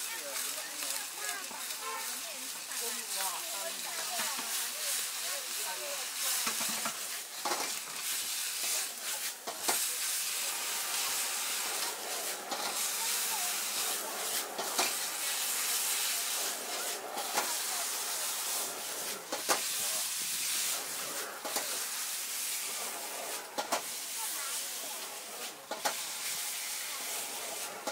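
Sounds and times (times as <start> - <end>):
food sizzling in a wok: 0.0 - 27.9
ladle scraping a wok: 0.4 - 27.9.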